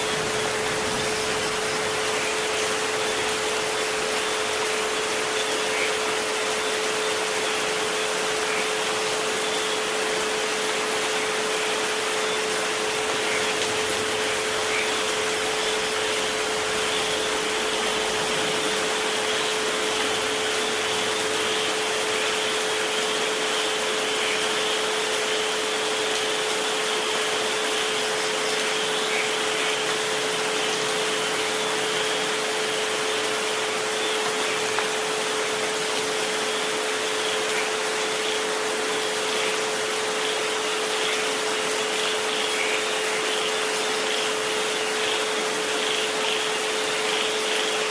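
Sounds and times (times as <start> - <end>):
rain hiss: 0.0 - 47.9.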